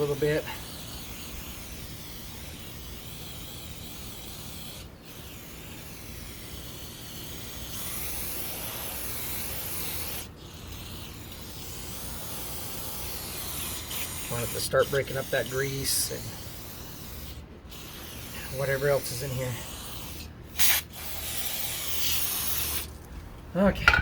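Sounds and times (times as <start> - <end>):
aerosol spray hissing: 0.0 - 23.0.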